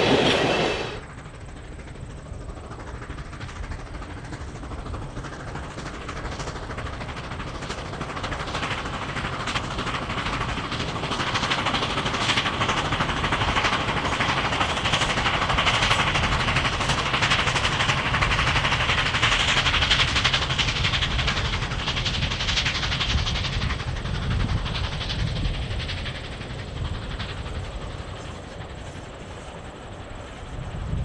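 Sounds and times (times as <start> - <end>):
steam locomotive exhaust beats: 0.0 - 31.0.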